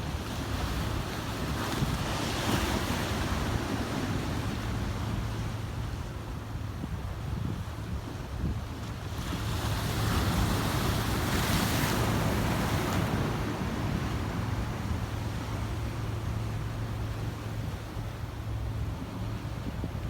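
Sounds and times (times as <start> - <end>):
low rumble of surf: 0.0 - 20.0
waves surging onto rocks: 0.1 - 6.2, 9.0 - 19.5.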